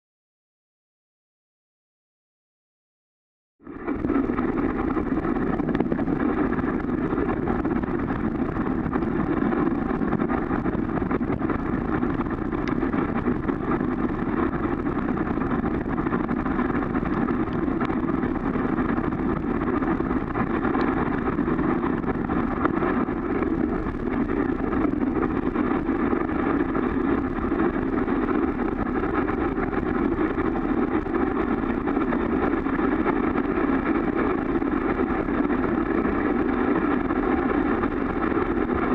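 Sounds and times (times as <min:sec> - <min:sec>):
muffled rumble and hiss: 0:03.6 - 0:38.9.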